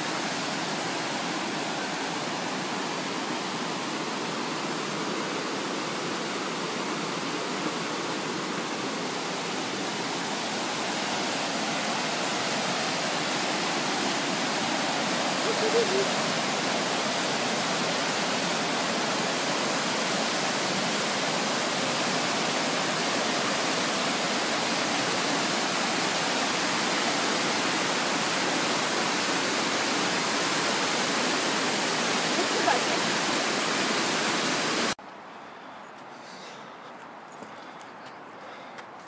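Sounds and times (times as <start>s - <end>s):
rapids rushing over boulders: 0.0s - 35.0s.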